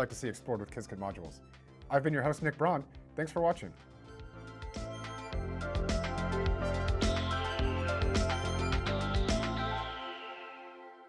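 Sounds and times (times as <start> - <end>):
electronic music with beat: 0.1 - 10.8.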